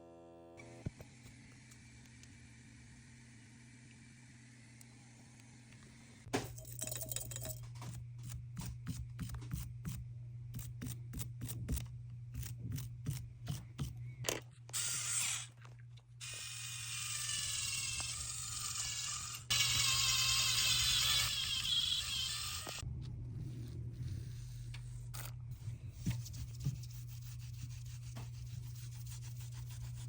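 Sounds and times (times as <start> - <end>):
steady low hum: 0.6 - 30.0.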